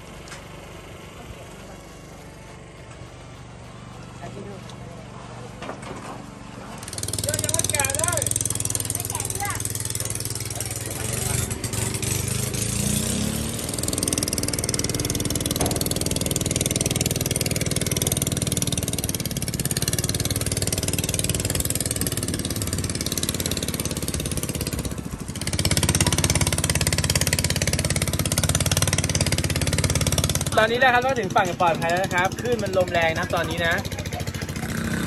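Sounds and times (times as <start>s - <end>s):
boat engine running: 0.0s - 5.6s, 6.2s - 35.0s.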